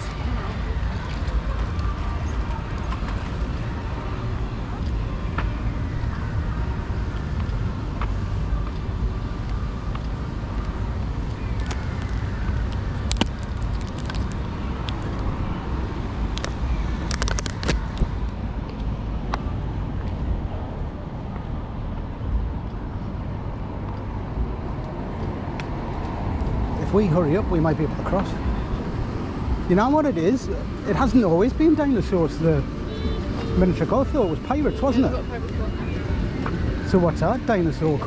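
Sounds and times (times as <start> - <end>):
rumble of passing cars: 0.0 - 38.0.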